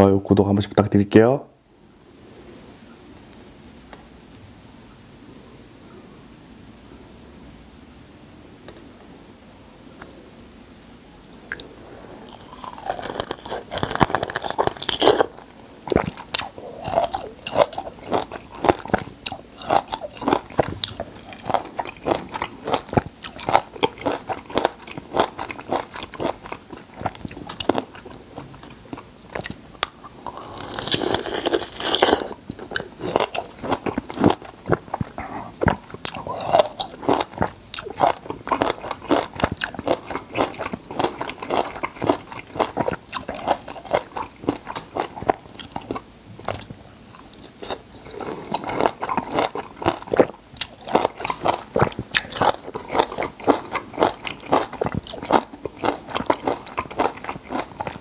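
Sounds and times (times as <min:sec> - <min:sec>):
chewing raw citrus fruit: 0:11.4 - 0:58.0.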